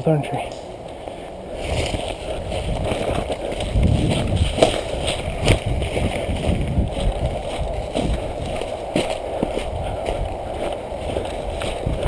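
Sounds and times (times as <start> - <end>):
brush rustling against microphone: 1.0 - 12.0.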